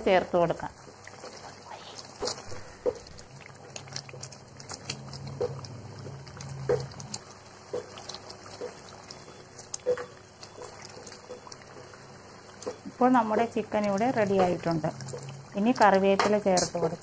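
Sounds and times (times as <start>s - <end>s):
curry squelching: 0.8s - 17.0s.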